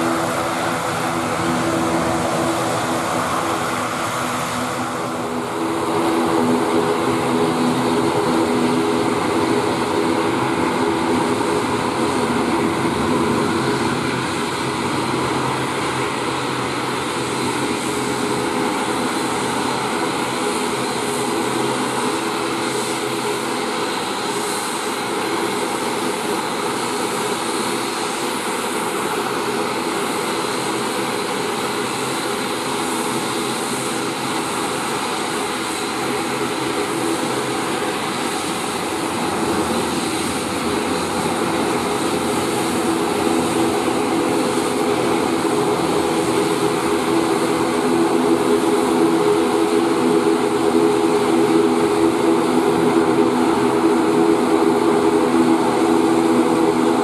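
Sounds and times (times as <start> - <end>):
propeller aircraft drone: 0.0 - 57.0.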